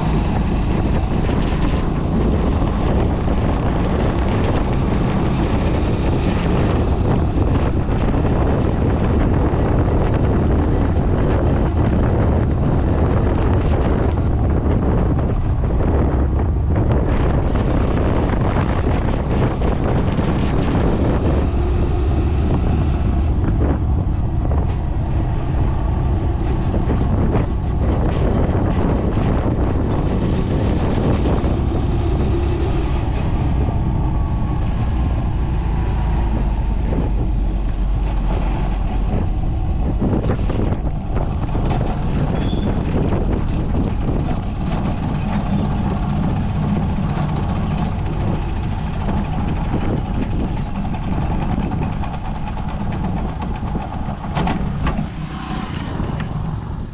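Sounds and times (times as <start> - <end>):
motorcycle running: 0.0 - 56.9
wind rumble on microphone: 0.0 - 56.9.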